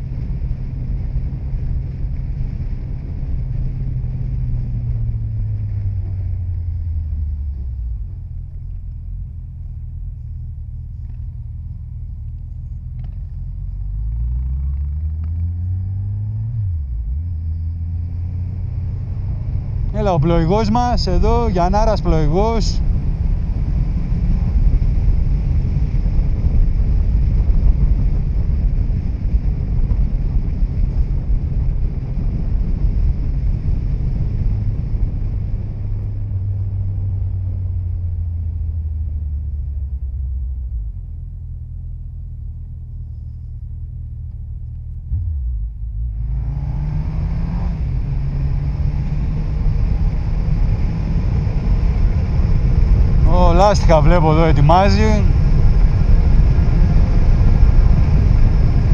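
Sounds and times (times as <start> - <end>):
motorcycle engine: 0.0 - 58.9
wind and road rush: 0.0 - 58.9.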